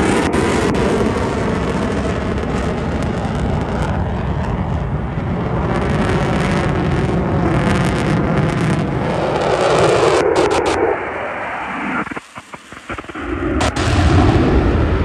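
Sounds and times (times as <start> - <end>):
airplane flying over: 0.0 - 15.0.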